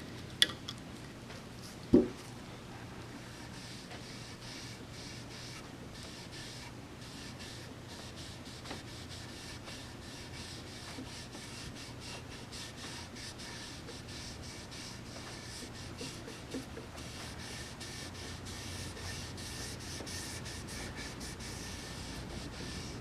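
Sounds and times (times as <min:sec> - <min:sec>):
steady low hum: 0:00.0 - 0:23.0
rubbing on wood: 0:03.3 - 0:23.0.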